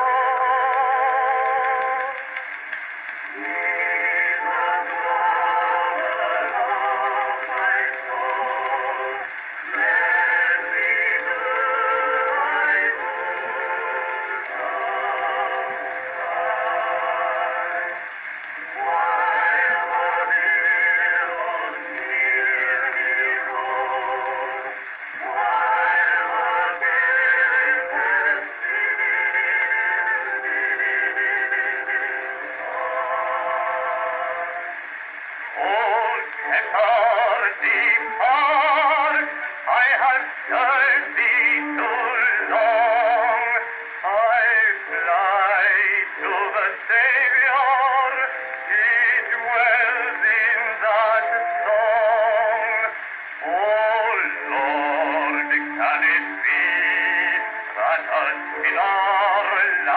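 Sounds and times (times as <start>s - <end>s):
instrumental accompaniment: 0.0s - 59.9s
man singing on phonograph: 0.0s - 59.9s.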